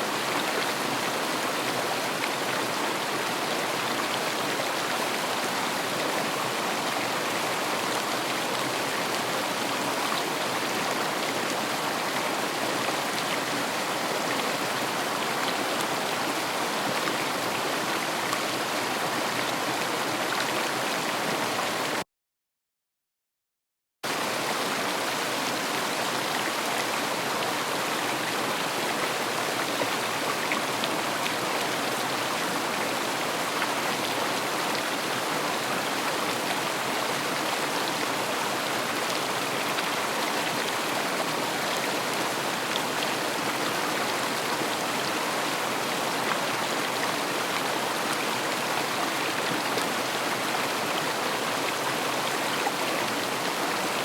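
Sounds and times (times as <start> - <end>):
river flowing over rocks: 0.0 - 21.9, 24.1 - 54.0.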